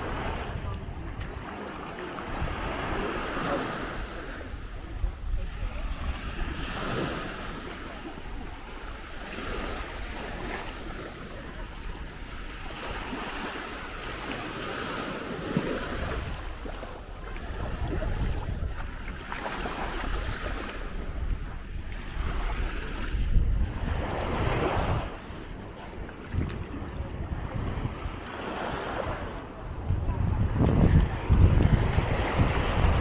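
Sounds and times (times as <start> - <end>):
sea waves on sandy beach: 0.0 - 33.0
wind rumbling on microphone: 0.0 - 33.0.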